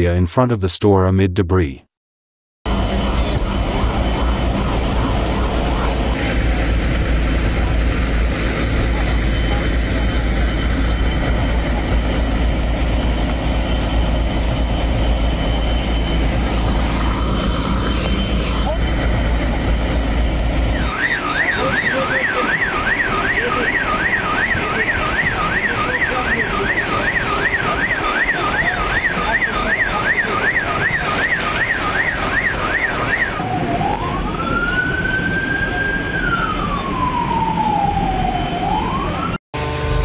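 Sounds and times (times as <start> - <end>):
emergency vehicle siren: 2.7 - 40.0.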